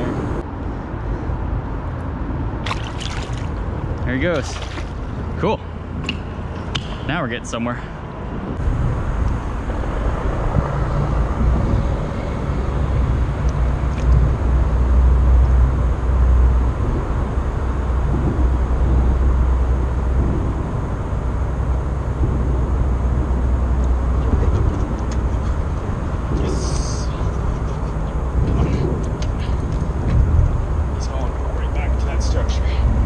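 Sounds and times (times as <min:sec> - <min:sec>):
traffic rumble on bridge overhead: 0:00.0 - 0:33.0.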